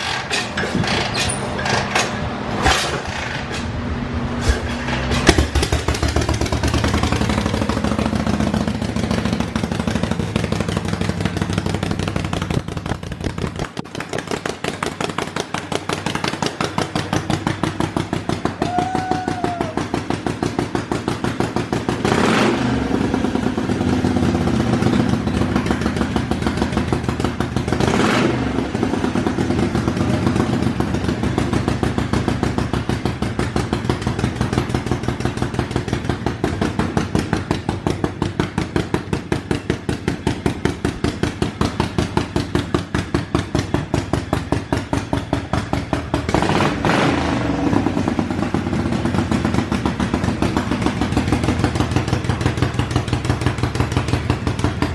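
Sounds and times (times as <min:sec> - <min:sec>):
motorcycle engine fast idle: 0:05.1 - 0:18.6, 0:23.0 - 0:46.4, 0:47.7 - 0:54.9.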